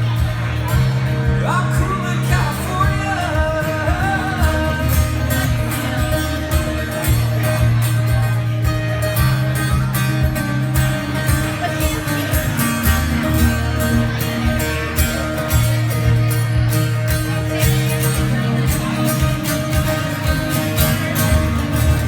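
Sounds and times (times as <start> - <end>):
guitar solo with bent notes: 0.0 - 22.0
steady beat and bass line: 0.0 - 22.0.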